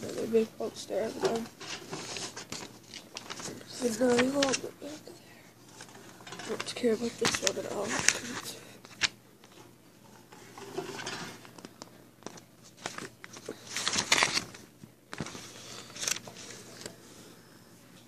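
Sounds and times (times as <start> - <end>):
paper posters rustling: 0.0 - 17.2.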